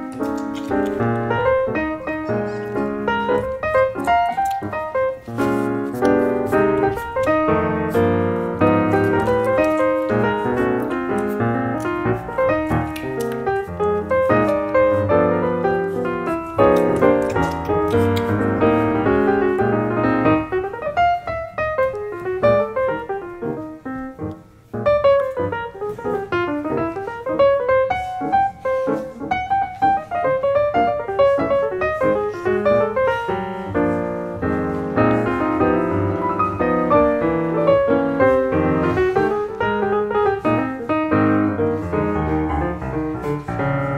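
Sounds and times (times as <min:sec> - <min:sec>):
piano music: 0:00.0 - 0:43.9.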